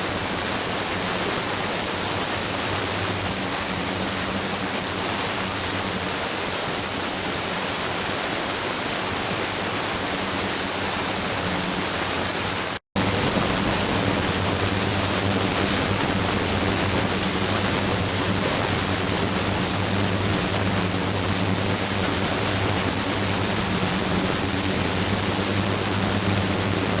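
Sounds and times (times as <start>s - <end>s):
high steady whine: 0.0s - 27.0s.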